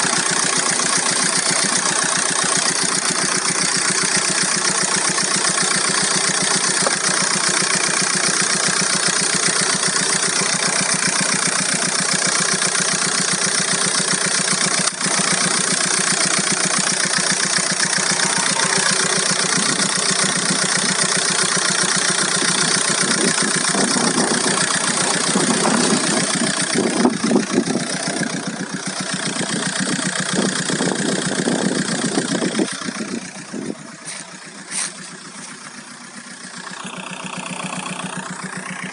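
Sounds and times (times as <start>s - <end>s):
diesel engine idling: 0.0s - 38.9s
strange engine noise: 0.0s - 38.9s.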